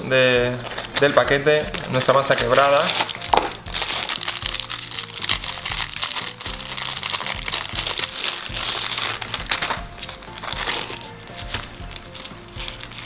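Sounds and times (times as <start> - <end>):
light background music: 0.0 - 13.0
plastic film crinkling: 0.4 - 13.0.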